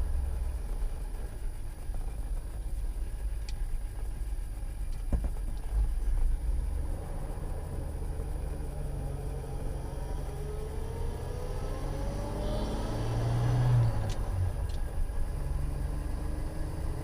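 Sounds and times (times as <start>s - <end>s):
pickup engine rumbling: 0.0s - 17.0s.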